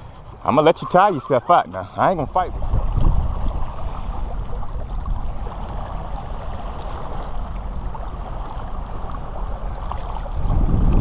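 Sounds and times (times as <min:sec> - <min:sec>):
waves lapping on rocks: 0:00.0 - 0:11.0
wind rumbling on microphone: 0:00.0 - 0:11.0.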